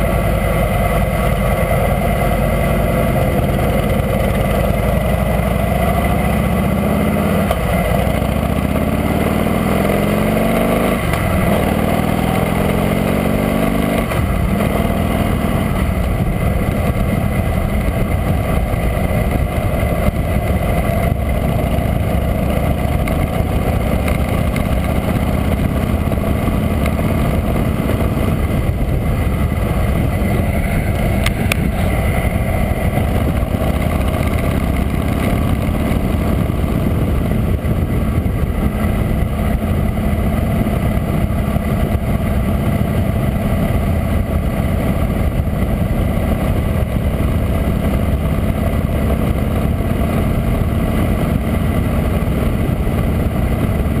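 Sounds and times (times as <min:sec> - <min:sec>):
motorcycle engine running: 0:00.0 - 0:54.0
road noise: 0:00.0 - 0:54.0
wind noise: 0:00.0 - 0:54.0.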